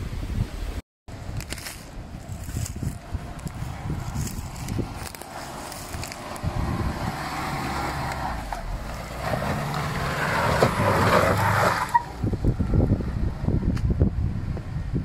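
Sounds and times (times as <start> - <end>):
wind rumbling on microphone: 0.0 - 15.0
car engine under load: 1.1 - 15.0.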